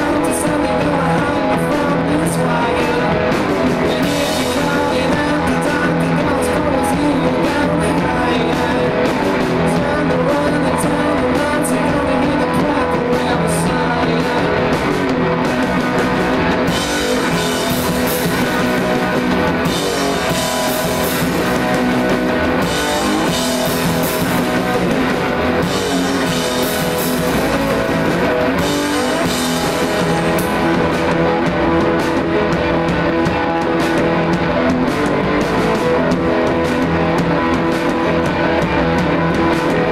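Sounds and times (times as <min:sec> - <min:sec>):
distorted electric guitar: 0:00.0 - 0:39.9
rock band playing loudly: 0:00.0 - 0:39.9.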